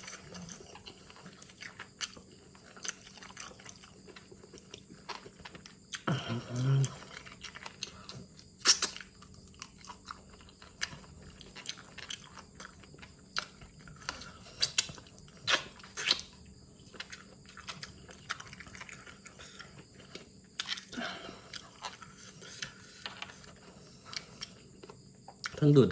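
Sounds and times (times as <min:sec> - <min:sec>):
wet chewing with crunches: 0:00.0 - 0:25.8.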